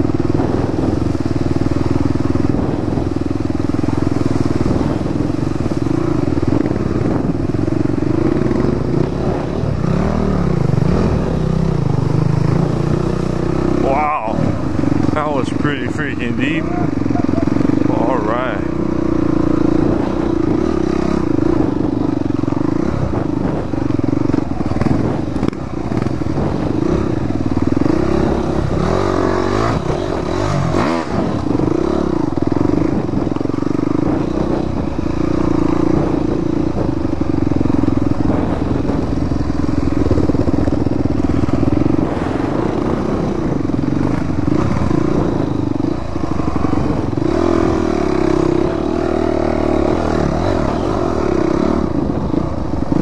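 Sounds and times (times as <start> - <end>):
dirt bike engine: 0.0 - 53.0.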